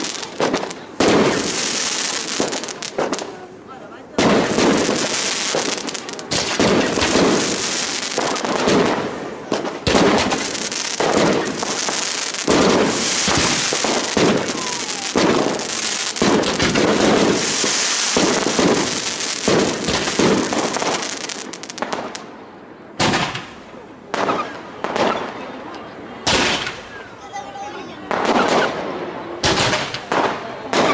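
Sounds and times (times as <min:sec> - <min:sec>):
fireworks bangs and crackling: 0:00.0 - 0:30.9.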